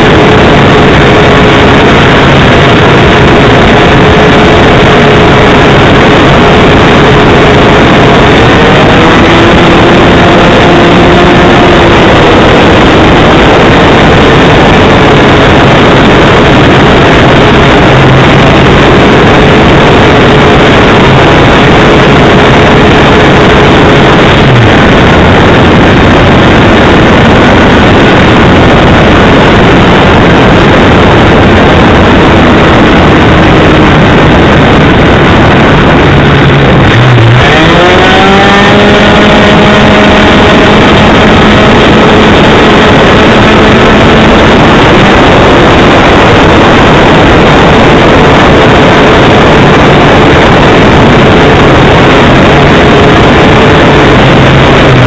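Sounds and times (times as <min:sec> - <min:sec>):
rushing air noise: 0:00.0 - 0:55.0.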